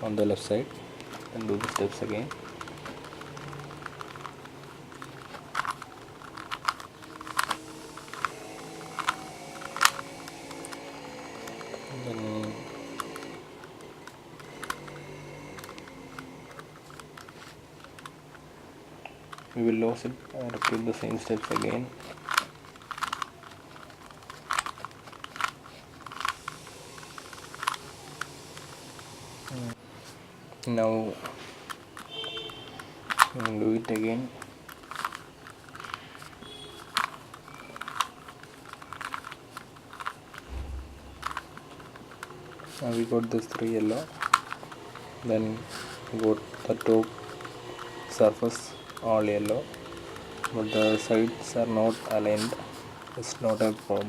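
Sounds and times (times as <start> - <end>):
puzzle cube plastic clicks: 0.1 - 29.8, 30.6 - 54.0.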